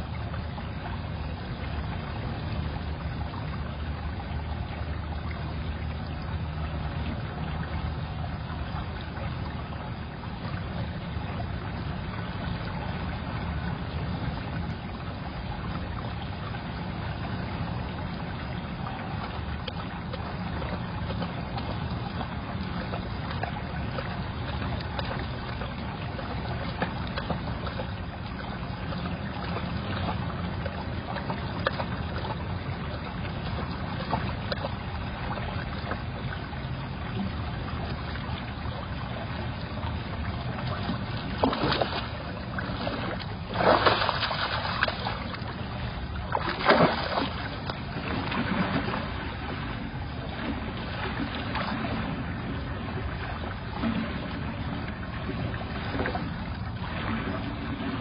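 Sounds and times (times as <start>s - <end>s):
low hum and hiss: 0.0s - 58.0s
tiger splashing in water: 4.6s - 58.0s.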